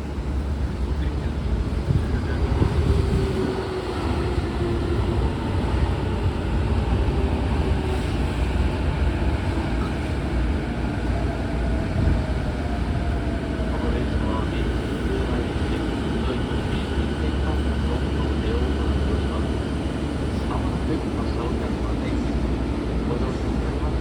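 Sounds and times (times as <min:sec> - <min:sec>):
train equipment and ventilation hum: 0:00.0 - 0:24.0.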